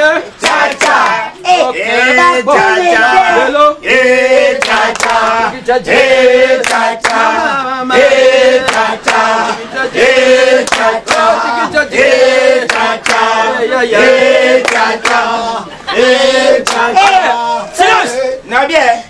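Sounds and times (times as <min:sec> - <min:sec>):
group singing a chant: 0:00.0 - 0:18.5.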